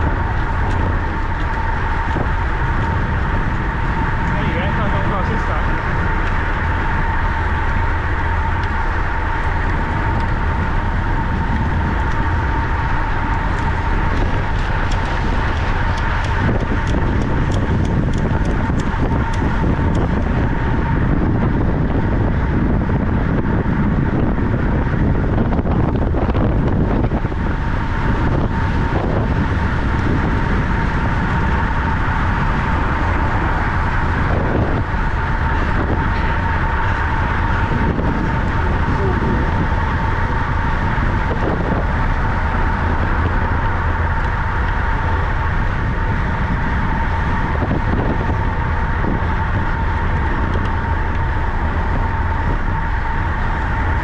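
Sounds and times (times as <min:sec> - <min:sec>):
constant high whine: 0:00.0 - 0:54.0
wind and rolling noise: 0:00.0 - 0:54.0.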